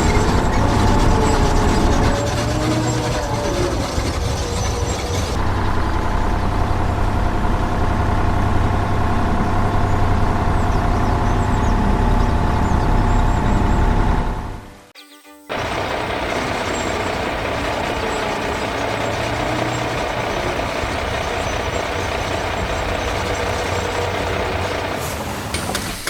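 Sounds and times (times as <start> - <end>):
heavy vehicle engine running: 0.0 - 14.9, 15.5 - 26.0.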